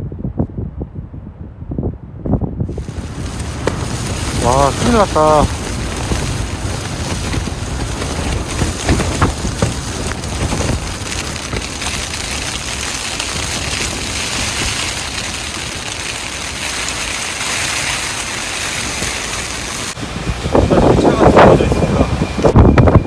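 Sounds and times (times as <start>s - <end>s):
strong wind gusting on microphone: 0.0s - 23.0s.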